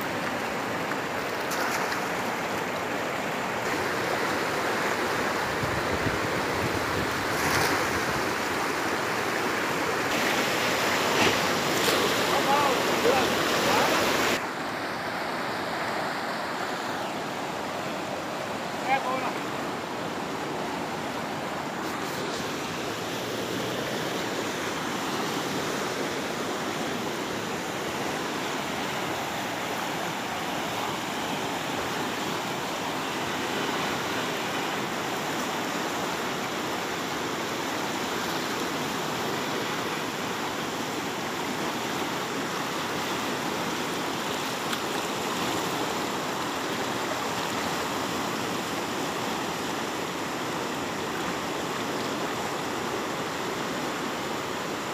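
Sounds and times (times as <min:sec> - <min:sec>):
river rapids rushing over rocks: 0:00.0 - 0:54.9.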